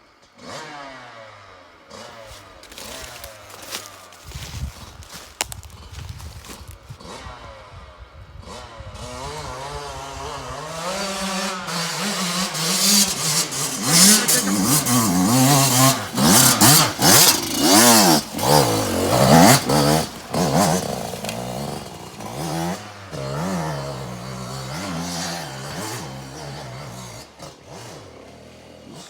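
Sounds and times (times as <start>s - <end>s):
motorcycle engine revving: 0.4s - 29.0s.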